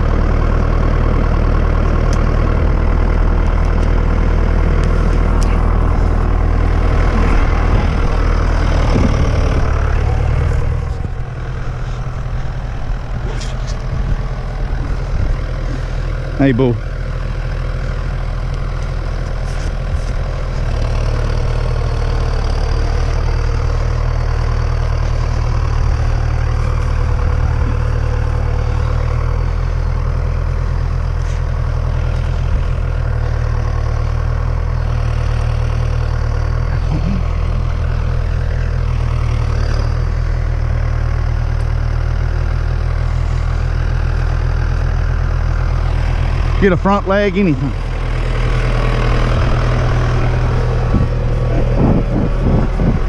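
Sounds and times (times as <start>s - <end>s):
tractor engine rumbling: 0.0s - 53.0s.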